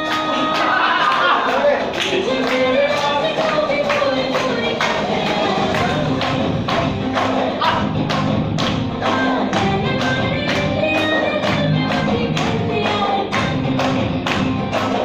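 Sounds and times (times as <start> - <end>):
dance music: 0.0 - 15.0.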